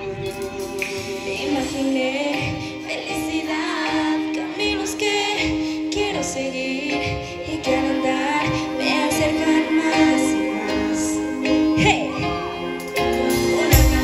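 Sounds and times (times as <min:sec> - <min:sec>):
instrumental backing: 0:00.0 - 0:14.0
woman singing into microphone: 0:00.0 - 0:14.0.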